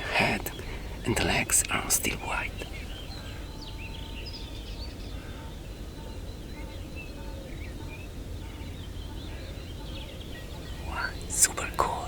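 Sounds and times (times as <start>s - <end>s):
faint bird chirps and whistles: 0.0s - 12.0s
low outdoor background rumble: 0.0s - 12.0s.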